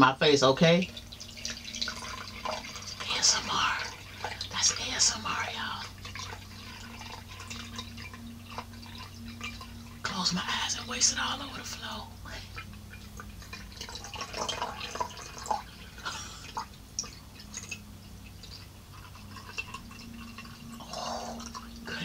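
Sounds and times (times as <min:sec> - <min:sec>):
water pouring into a glass: 0:00.8 - 0:22.0.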